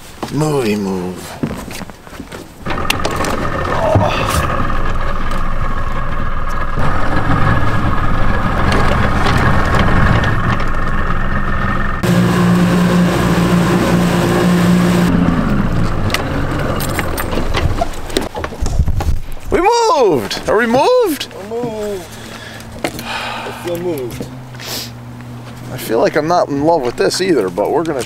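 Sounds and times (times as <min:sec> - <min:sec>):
boat motor running: 0:02.6 - 0:18.3, 0:20.4 - 0:28.0.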